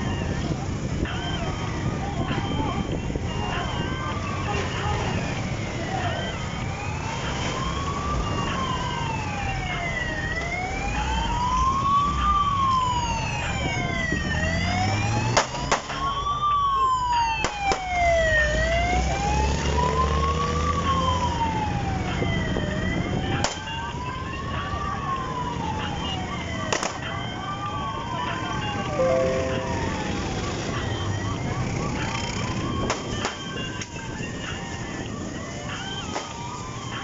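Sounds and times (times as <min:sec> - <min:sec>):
police siren wailing: 0:00.0 - 0:37.0.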